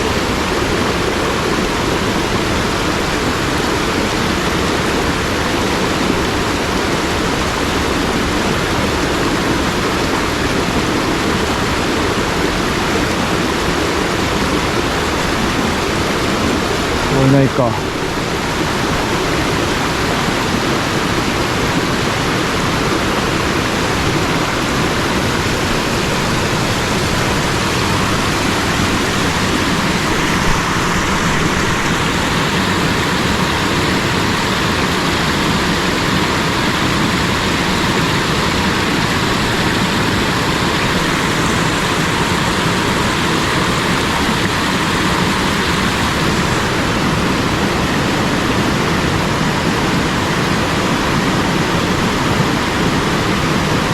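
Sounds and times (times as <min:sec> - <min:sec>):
stream water tumbling over rocks: 0:00.0 - 0:53.9.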